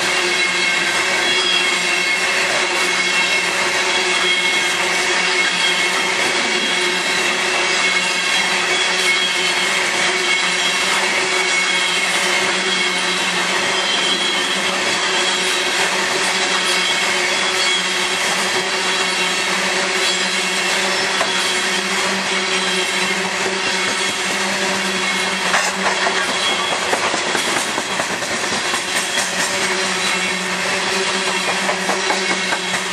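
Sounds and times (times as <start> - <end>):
wheels on rails and rattling cars: 0.0 - 32.9.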